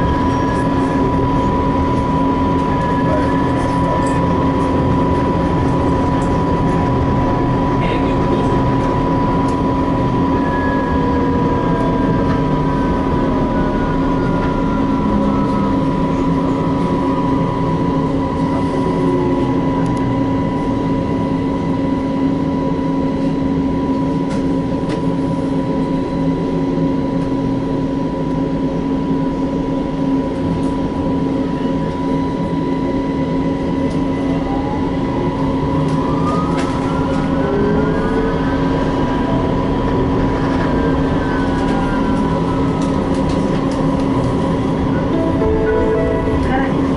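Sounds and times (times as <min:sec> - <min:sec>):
electrical hum: 0:00.0 - 0:46.9
traction motor whine: 0:00.0 - 0:46.9
tram rolling noise: 0:00.0 - 0:46.9.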